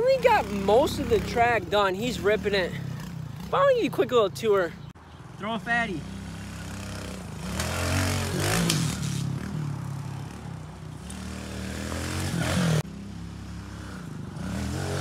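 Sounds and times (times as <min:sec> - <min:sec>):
dirt bike engine revving: 0:00.0 - 0:04.6, 0:05.7 - 0:15.0.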